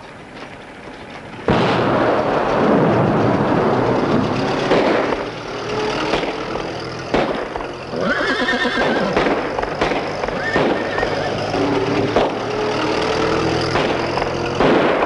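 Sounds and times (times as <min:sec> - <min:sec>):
old car engine running rough: 0:00.0 - 0:15.0
sharp cracks: 0:00.4 - 0:15.0.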